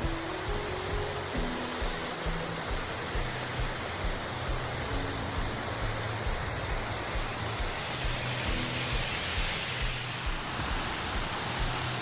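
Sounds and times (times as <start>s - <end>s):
soft low thumps: 0.0s - 11.9s
waterfall rushing: 0.0s - 12.0s.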